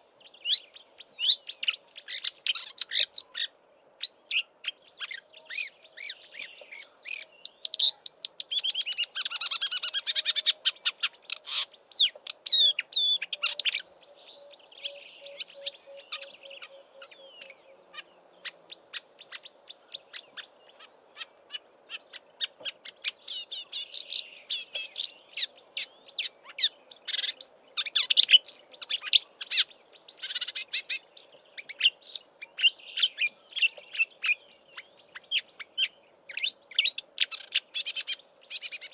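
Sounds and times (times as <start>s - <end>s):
warbler singing: 0.0s - 38.9s.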